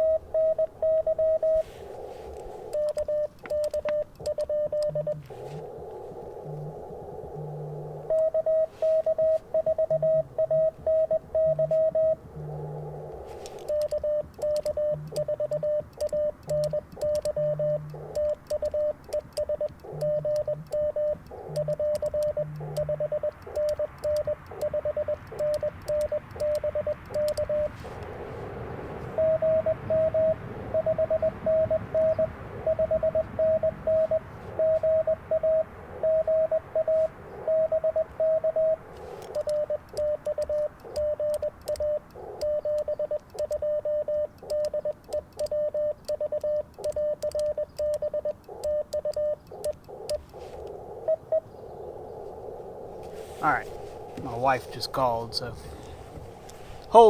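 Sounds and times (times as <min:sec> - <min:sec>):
morse code tone: 0:00.0 - 0:05.8, 0:06.4 - 0:50.3
radio band hiss: 0:00.0 - 0:43.3, 0:48.3 - 0:57.0.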